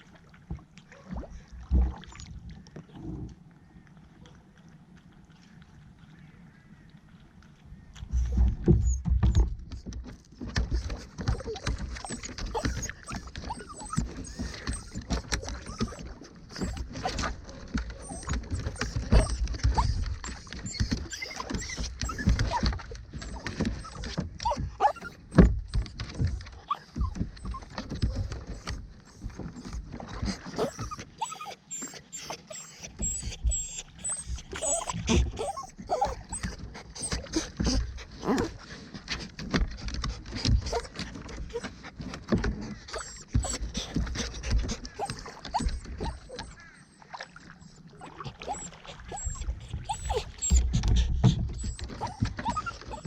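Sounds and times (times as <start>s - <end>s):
water noise: 0.0s - 53.0s.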